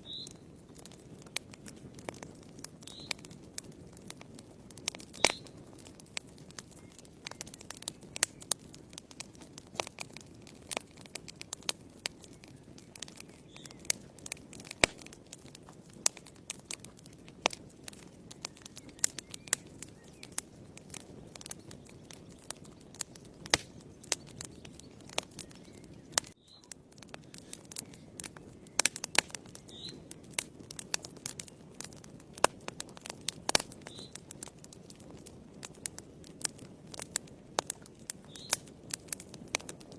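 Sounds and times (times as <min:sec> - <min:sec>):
fire crackling and popping: 0:00.0 - 0:39.9
flames rustling: 0:00.0 - 0:39.9.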